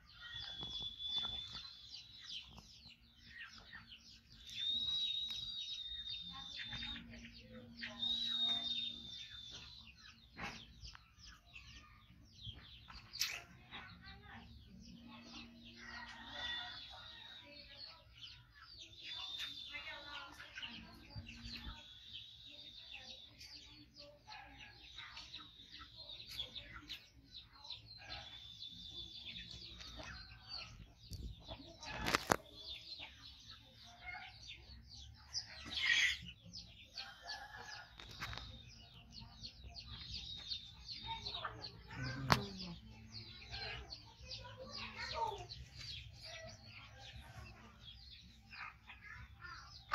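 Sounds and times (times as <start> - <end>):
chickens clucking: 0.0 - 49.9
small birds chirping: 0.0 - 49.9.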